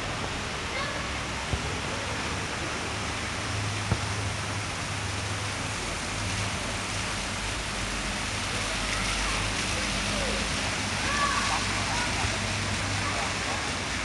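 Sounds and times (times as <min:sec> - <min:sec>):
water falling on wet paving: 0:00.0 - 0:14.0.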